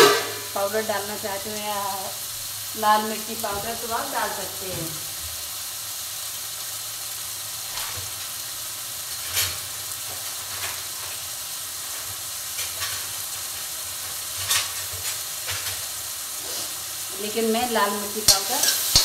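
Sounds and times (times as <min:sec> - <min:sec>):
tomatoes sizzling in oil: 0:00.0 - 0:19.0.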